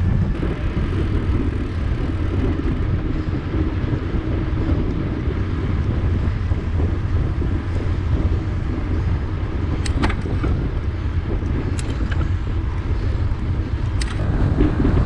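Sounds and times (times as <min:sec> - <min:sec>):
wind buffeting microphone: 0:00.0 - 0:15.0
bicycle clicks and knocks: 0:00.3 - 0:15.0.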